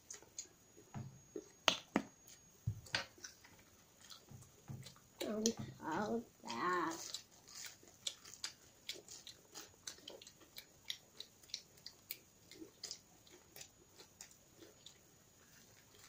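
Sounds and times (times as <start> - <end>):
chewing and crunching: 2.2 - 16.0.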